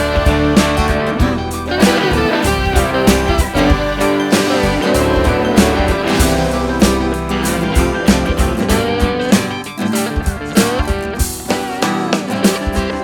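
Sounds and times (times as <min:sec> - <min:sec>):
guitar with sliding notes: 0:00.0 - 0:13.0
steady drum beat: 0:00.0 - 0:13.0.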